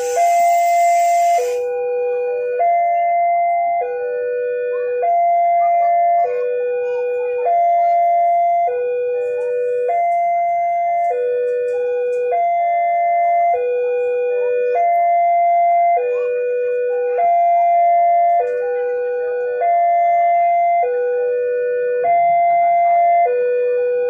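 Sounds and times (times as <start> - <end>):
two-tone level crossing bell: 0.0 - 24.0.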